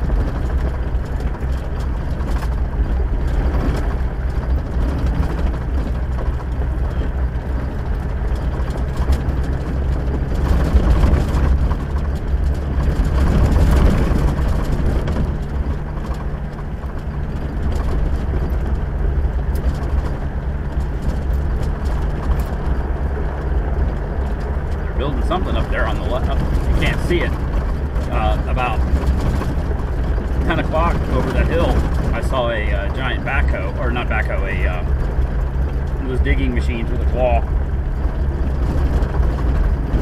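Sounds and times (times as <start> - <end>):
off-road driving noise: 0.0 - 40.0
vehicle engine running: 0.0 - 40.0.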